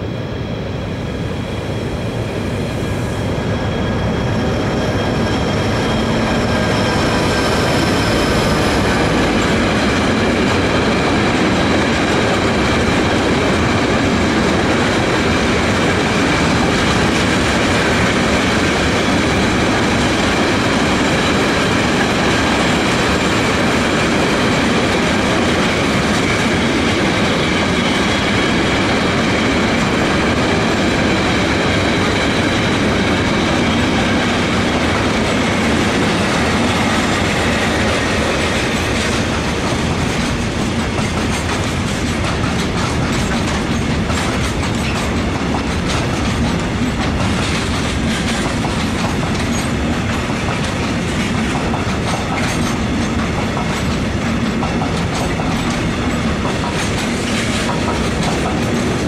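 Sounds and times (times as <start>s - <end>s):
freight train wheels rolling on rails: 0.0s - 59.0s.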